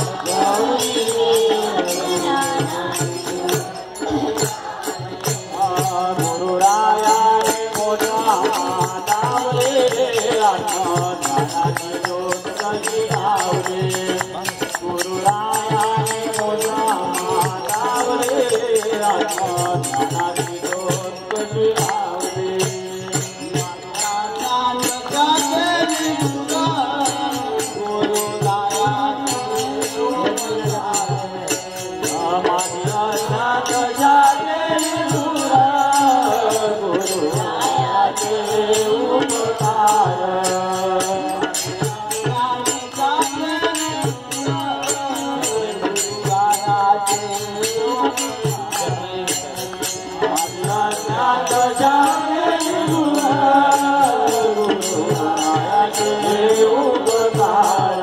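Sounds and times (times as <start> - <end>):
people singing devotional song: 0.0 - 58.0
rhythm instruments: 0.0 - 58.0.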